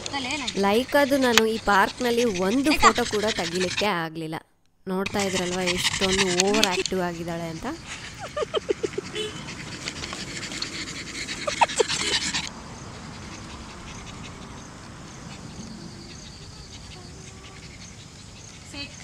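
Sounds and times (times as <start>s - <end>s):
dog panting: 0.0s - 4.1s, 5.0s - 19.0s.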